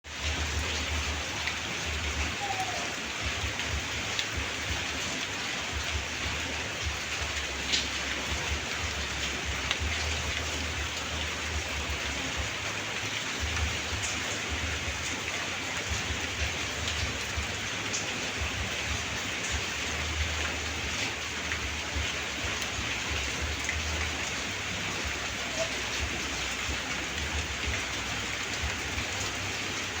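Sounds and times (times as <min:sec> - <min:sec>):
light rain falling: 0:00.0 - 0:30.0
water drips: 0:00.2 - 0:30.0.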